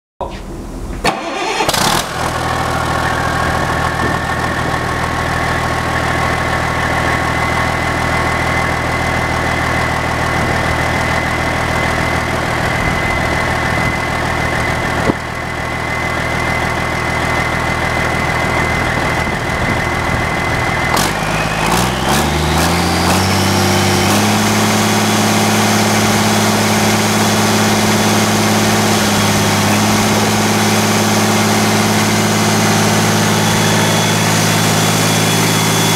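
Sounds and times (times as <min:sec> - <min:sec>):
diesel engine idling: 0:00.6 - 0:35.9
high turbocharger whine: 0:00.6 - 0:35.9.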